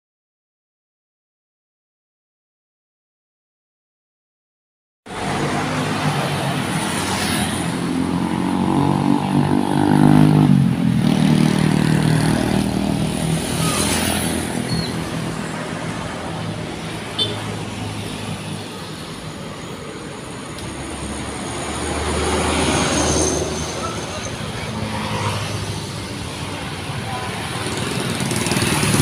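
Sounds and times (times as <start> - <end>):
road traffic noise: 5.1 - 29.0.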